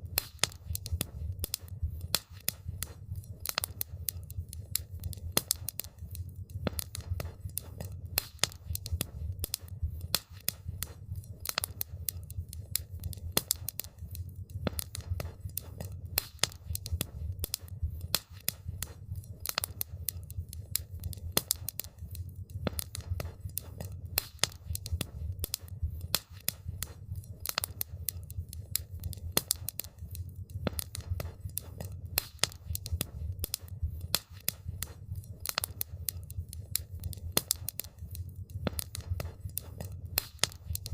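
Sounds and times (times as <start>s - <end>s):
campfire wood popping and snapping: 0.0s - 40.9s
low rumble of flames: 0.0s - 40.9s.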